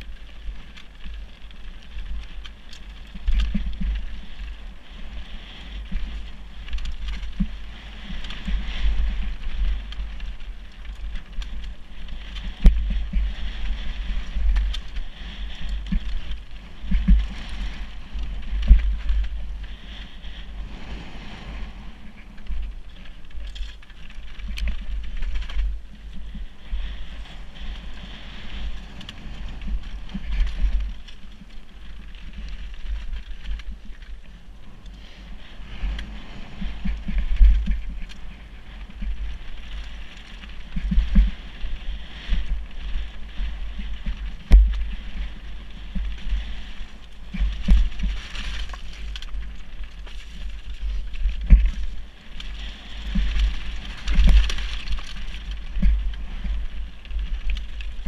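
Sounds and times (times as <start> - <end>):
bike tyres crunching over stones: 0.0 - 58.0
wind buffeting microphone: 0.0 - 58.0.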